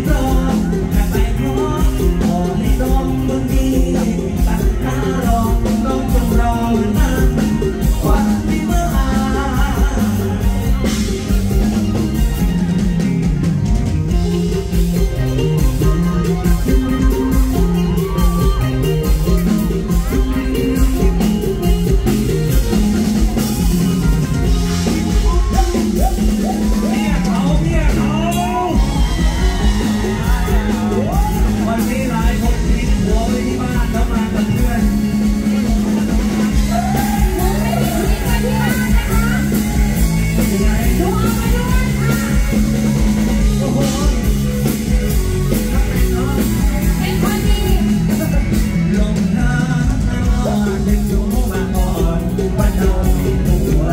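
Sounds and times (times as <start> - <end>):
bass drum: 0.0 - 53.9
bass line: 0.0 - 53.9
guitar: 0.0 - 53.9
live band playing: 0.0 - 53.9.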